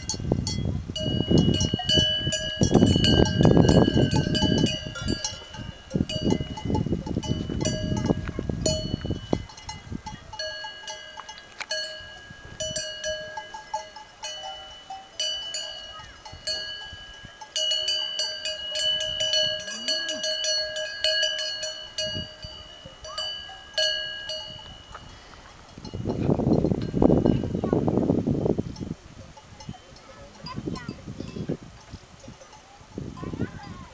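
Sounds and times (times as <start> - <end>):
cowbells clanking: 0.0 - 27.9, 28.6 - 33.9.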